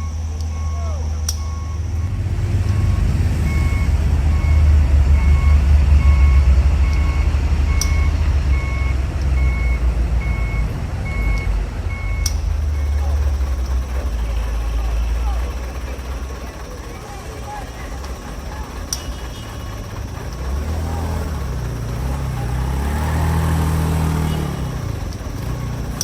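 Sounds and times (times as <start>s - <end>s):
diesel truck engine running: 0.0s - 26.0s
reversing alarm beeping: 0.0s - 26.0s.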